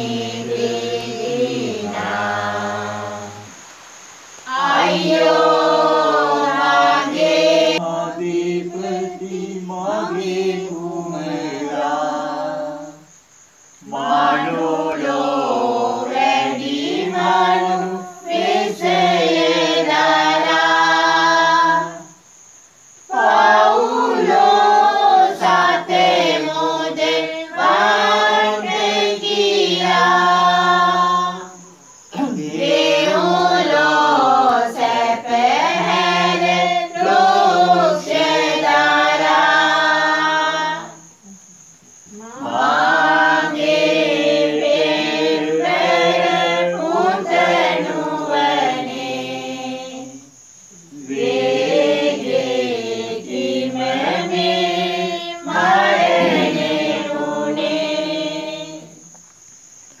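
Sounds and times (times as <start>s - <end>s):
group singing a hymn unaccompanied: 0.0s - 59.3s.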